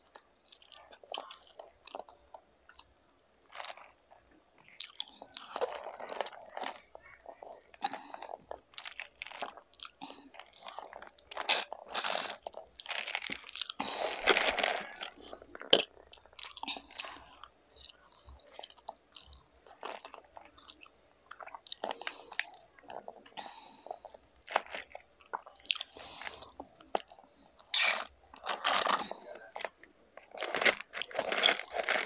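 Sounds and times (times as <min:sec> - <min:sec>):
person crunching crispy food: 0:00.4 - 0:04.0, 0:04.6 - 0:23.0, 0:23.7 - 0:32.0.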